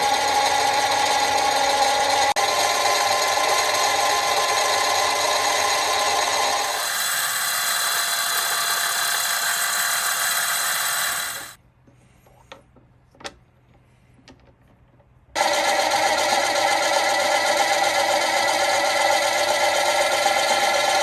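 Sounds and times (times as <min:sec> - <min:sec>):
metal lathe cutting metal: 0:00.0 - 0:11.6, 0:15.4 - 0:21.0.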